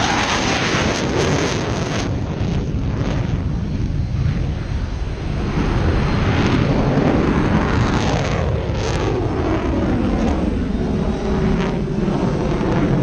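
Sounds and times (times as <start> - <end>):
aircraft flying overhead: 0.0 - 13.0.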